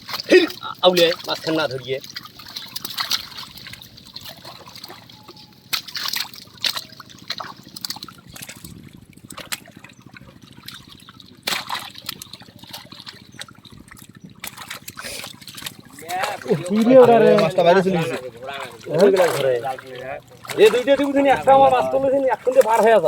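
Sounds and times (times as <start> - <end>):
fish thrashing in water: 0.0 - 23.0
water splashing and trickling: 0.0 - 23.0.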